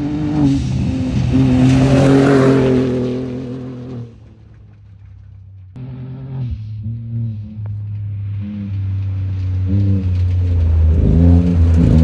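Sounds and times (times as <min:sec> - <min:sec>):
engine running hard: 0:00.0 - 0:12.0.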